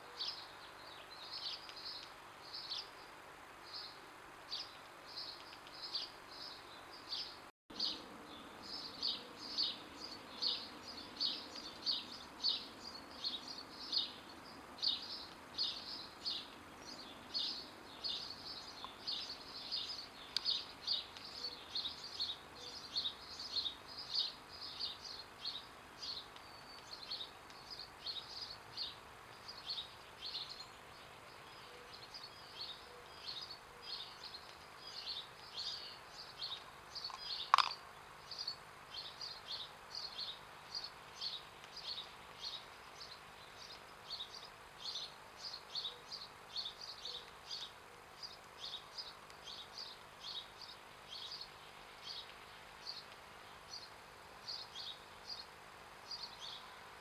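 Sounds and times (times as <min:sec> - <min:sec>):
faint steady hiss: 0:00.0 - 0:57.0
small birds chirping: 0:00.0 - 0:57.0.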